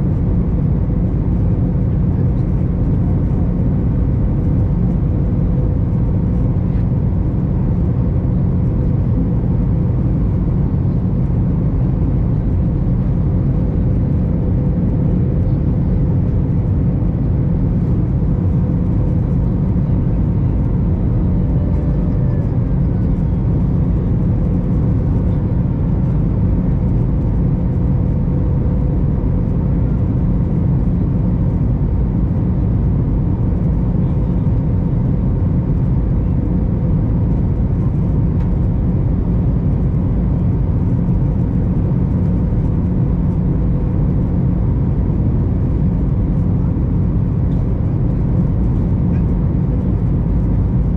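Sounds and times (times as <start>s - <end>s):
deep airliner cabin rumble: 0.0s - 50.9s.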